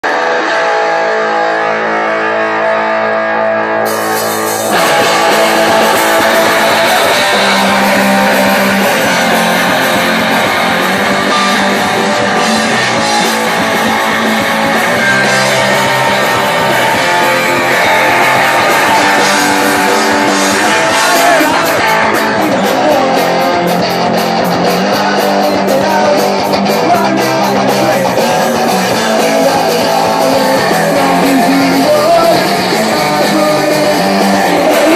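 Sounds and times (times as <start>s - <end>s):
guitar chords ringing: 0.0s - 34.9s
punk band playing live: 0.0s - 34.9s.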